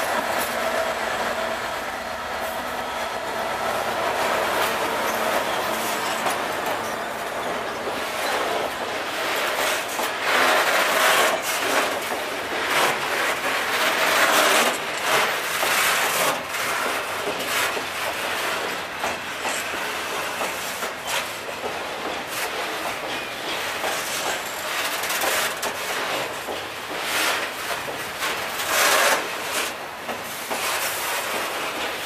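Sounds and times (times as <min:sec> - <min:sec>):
train wheels on rails: 0:00.0 - 0:32.0
wheels clicking over rail joints: 0:03.7 - 0:32.0.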